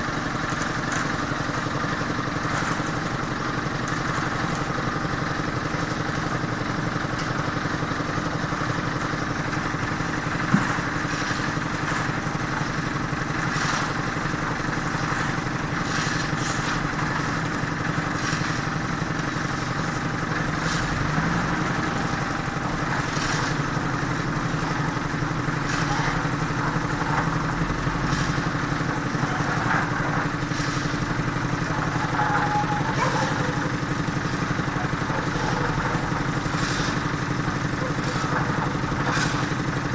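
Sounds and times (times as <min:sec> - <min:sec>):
construction machinery engine running: 0:00.0 - 0:39.9.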